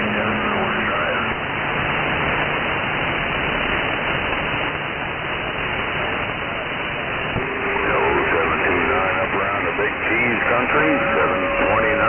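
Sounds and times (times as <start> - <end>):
radio static hiss: 0.0 - 2.7, 3.5 - 12.0.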